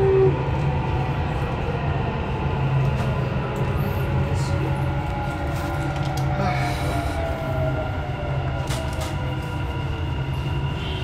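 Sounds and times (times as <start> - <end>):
faint train whine: 0.0 - 11.0
train rumbling: 0.0 - 11.0.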